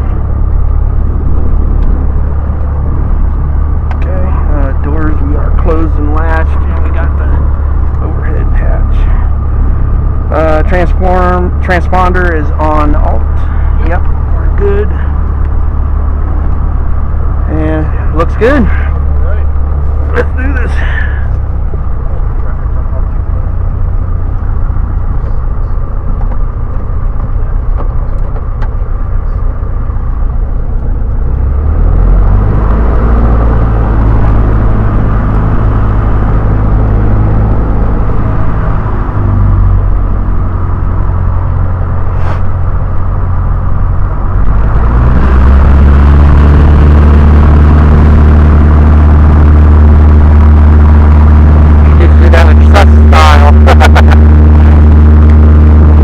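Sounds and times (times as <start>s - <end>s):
light aircraft engine: 0.0s - 56.0s.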